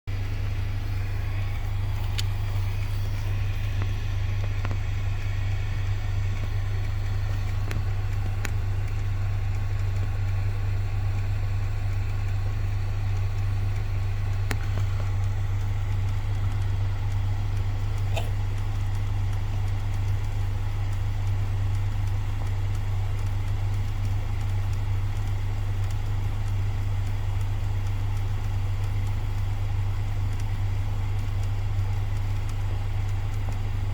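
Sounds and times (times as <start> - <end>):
actuator clicking: 0.1 - 33.9
low cabin hum: 0.1 - 33.9.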